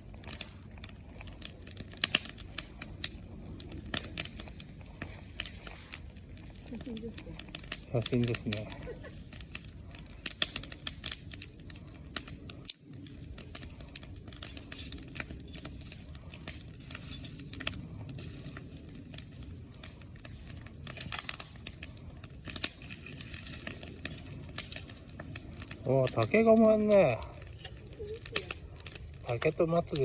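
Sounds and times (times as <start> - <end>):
bonfire crackling and popping: 0.0 - 30.0
low fire rumble: 0.0 - 30.0.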